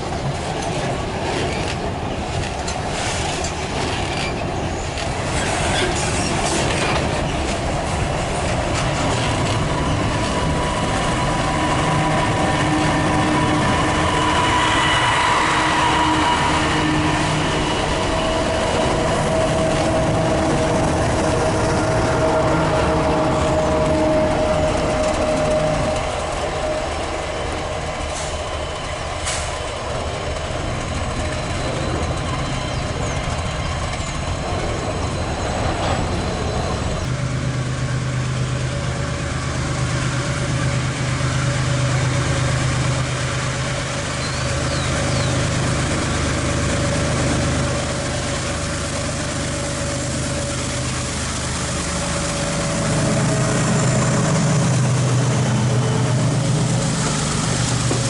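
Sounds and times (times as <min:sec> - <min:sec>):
diesel locomotive engine humming: 0:00.0 - 0:58.0.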